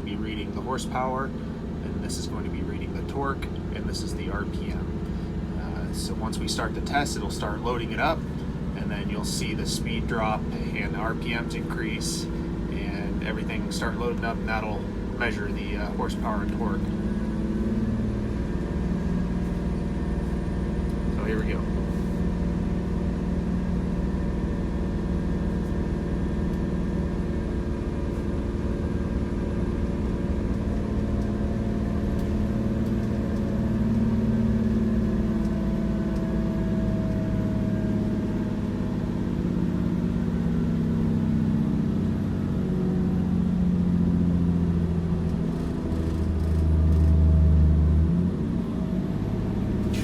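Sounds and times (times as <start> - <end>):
diesel engine under load: 0.0 - 50.0.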